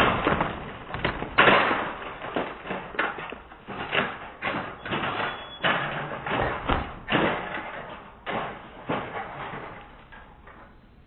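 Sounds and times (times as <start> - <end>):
knocks and thuds of debris: 0.0 - 10.7.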